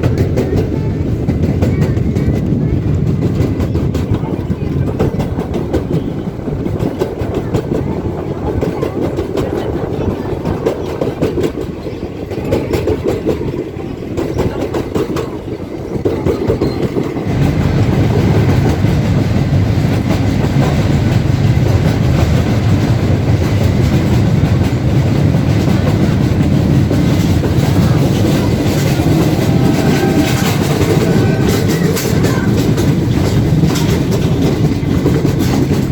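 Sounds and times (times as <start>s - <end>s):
train rumbling on track: 0.0s - 35.9s
wheels clacking over rail joints: 0.0s - 35.9s.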